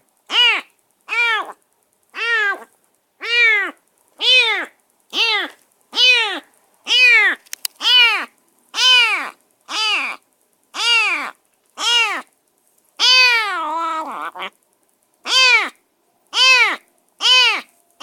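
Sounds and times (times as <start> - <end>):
faint clicks: 0.0 - 18.0
cat meowing: 0.3 - 1.6, 2.2 - 12.3, 13.0 - 14.5, 15.2 - 17.7.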